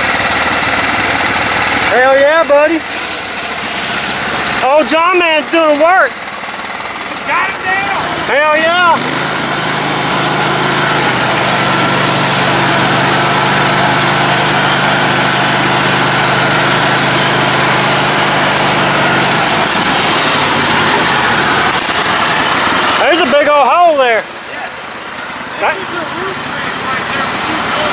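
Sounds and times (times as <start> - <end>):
lawn mower engine droning: 0.0 - 27.9.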